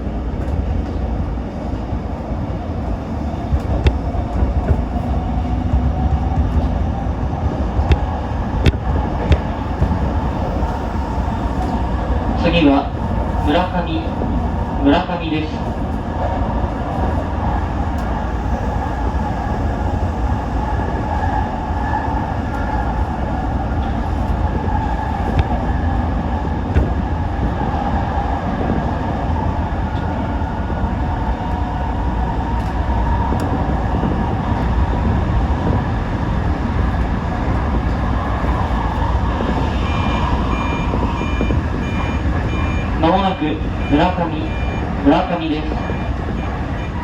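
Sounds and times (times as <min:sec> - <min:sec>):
train wheels rolling on rails: 0:00.0 - 0:47.0.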